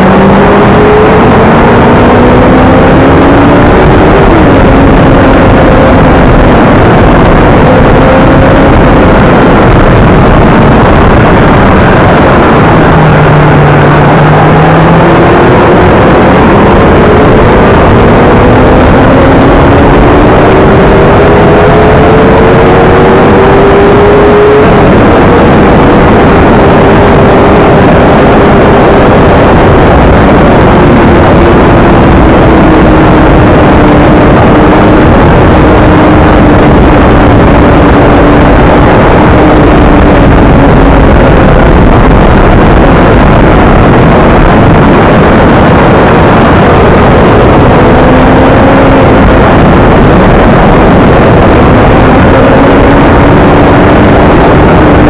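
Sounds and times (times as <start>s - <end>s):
motorcycle engine running: 0.0s - 55.0s
wind noise rushing: 0.0s - 55.0s.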